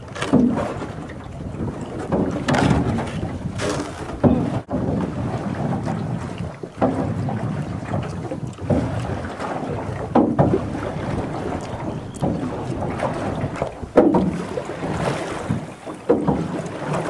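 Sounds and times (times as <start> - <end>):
poles splashing in water: 0.0 - 17.0
water sloshing: 0.0 - 17.0
wind buffeting microphone: 0.0 - 17.0.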